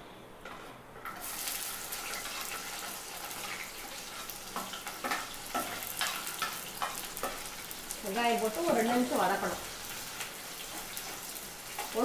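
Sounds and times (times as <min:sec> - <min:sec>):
onions sizzling in hot oil: 0:01.1 - 0:12.0.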